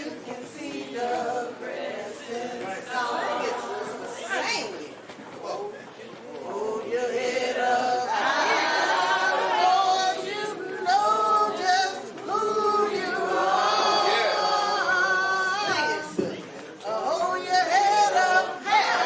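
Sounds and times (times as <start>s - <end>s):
group singing without instruments: 0.0s - 4.8s, 5.6s - 19.0s.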